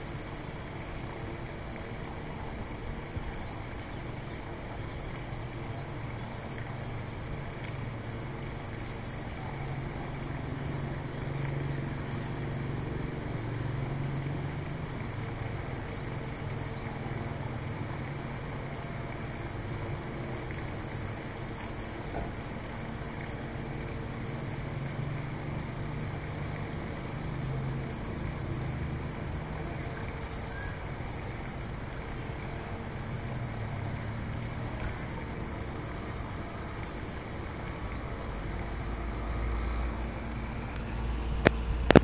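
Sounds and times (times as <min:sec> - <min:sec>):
vehicle engines humming: 0:00.0 - 0:42.0.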